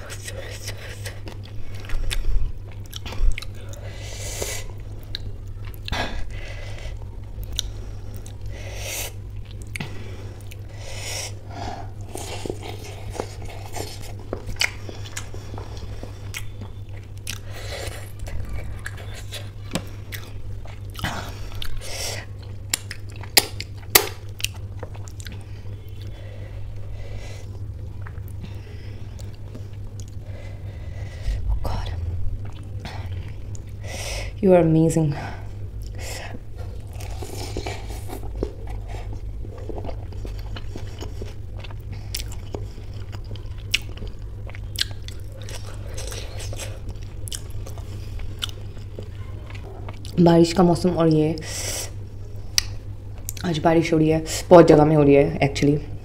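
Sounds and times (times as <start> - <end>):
chewing and biting food: 0.0 - 6.0, 6.9 - 10.8, 11.8 - 26.8, 27.4 - 33.8, 35.6 - 50.3, 52.4 - 53.5
steady low hum: 0.0 - 56.0.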